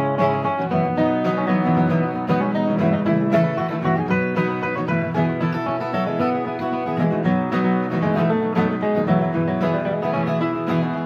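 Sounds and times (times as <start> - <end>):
acoustic country band playing: 0.0 - 11.0
strummed acoustic guitar: 0.0 - 11.0.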